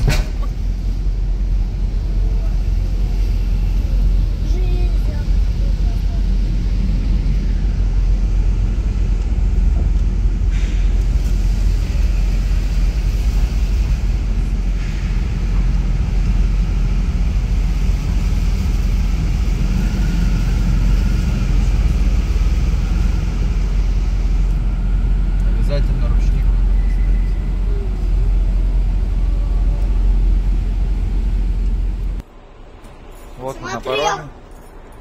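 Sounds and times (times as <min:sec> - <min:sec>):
moving vehicle rumble: 0:00.0 - 0:35.0.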